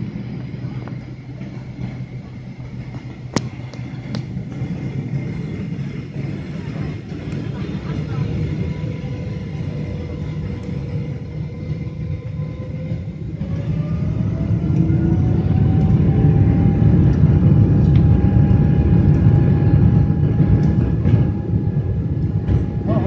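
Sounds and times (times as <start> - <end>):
jet engines spooling up: 0.0 - 23.0.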